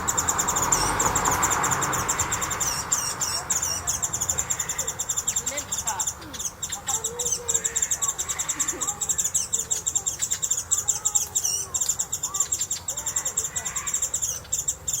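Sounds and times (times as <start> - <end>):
high bird contact calls: 0.0 - 15.0
sweeping bird call: 0.0 - 15.0.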